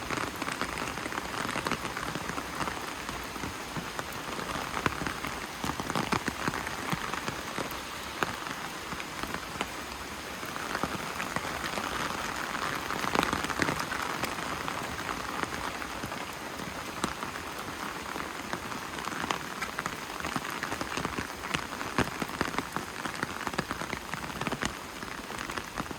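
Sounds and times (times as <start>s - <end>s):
raindrops ticking close by: 0.0s - 25.9s
steady rain falling: 0.0s - 25.9s.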